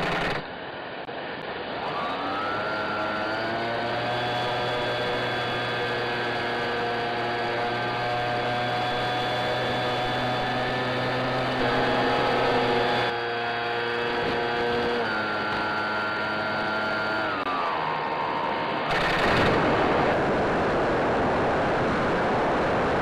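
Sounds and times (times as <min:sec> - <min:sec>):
model plane motor and propeller: 0:00.0 - 0:00.5, 0:01.5 - 0:19.9.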